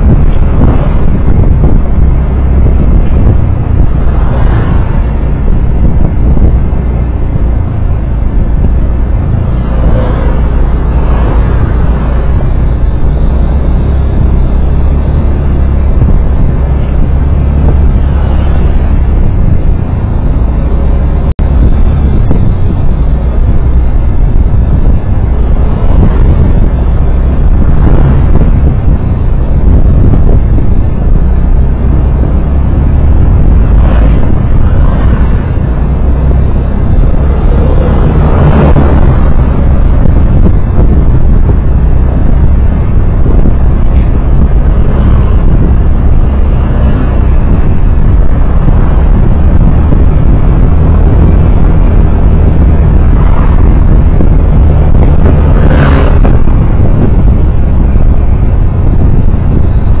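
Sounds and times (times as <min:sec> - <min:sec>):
vehicle road and wind rumble: 0:00.0 - 1:00.0.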